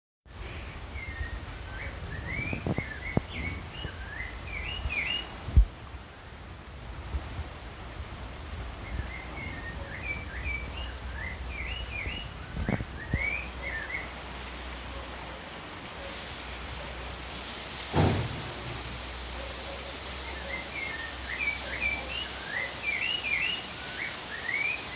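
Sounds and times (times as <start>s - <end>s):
songbird singing rising chirps: 0.3s - 7.1s, 8.1s - 24.9s.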